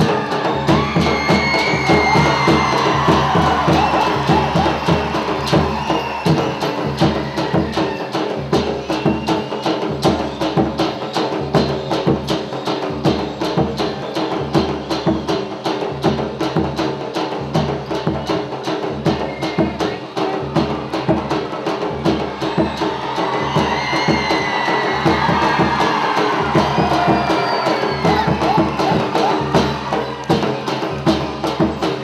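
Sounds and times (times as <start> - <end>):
folk dance music: 0.0 - 16.0, 18.4 - 32.0
fast percussion beat: 0.0 - 32.0.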